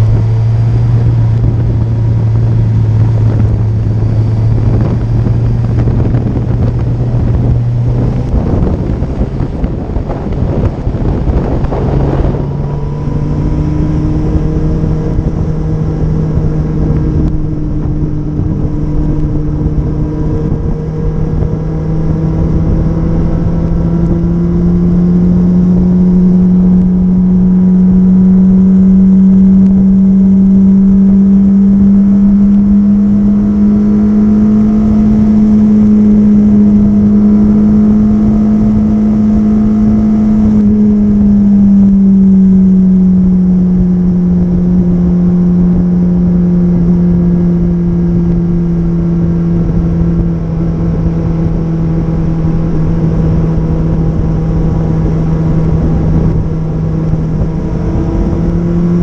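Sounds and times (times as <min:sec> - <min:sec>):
motorcycle engine cruising: 0:00.0 - 0:59.0
wind rush: 0:00.0 - 0:59.0.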